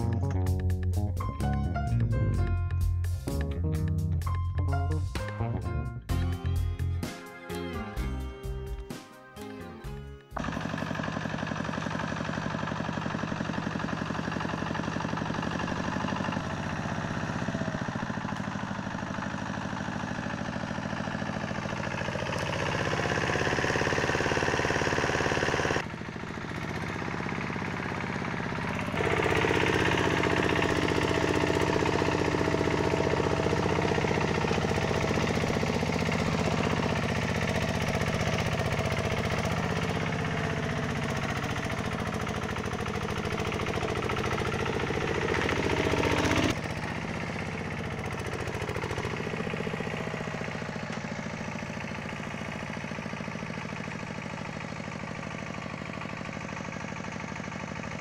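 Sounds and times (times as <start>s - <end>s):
diesel engine chugging under load: 10.4s - 58.0s.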